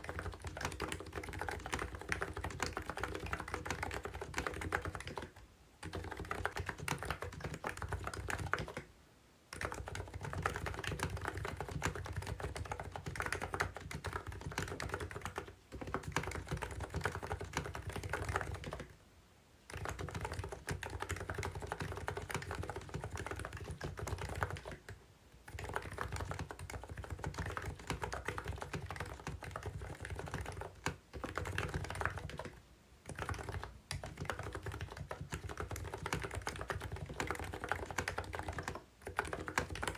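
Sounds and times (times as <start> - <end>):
fast typing on keyboard: 0.0 - 8.9, 9.5 - 19.0, 19.7 - 39.9.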